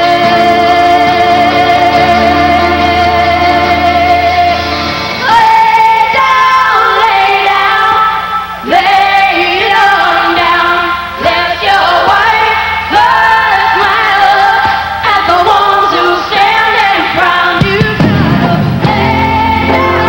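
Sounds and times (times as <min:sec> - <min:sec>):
acoustic guitar: 0:00.0 - 0:09.0, 0:10.4 - 0:20.0
female voices singing in harmony: 0:00.0 - 0:20.0.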